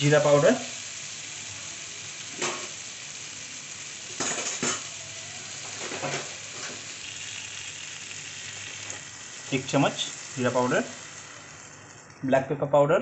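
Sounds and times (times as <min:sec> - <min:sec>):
butter sizzling in a wok: 0:00.0 - 0:12.3.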